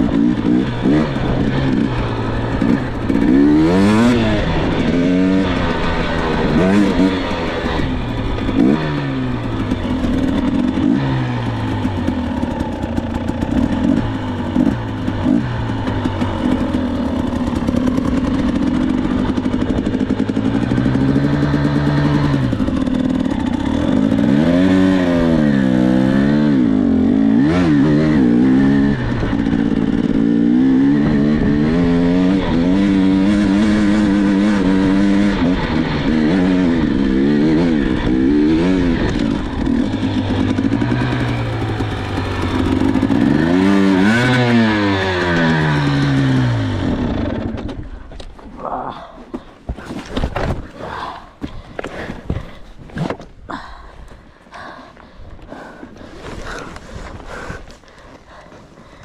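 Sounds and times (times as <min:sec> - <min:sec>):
dirt bike engine revving: 0:00.0 - 0:48.1.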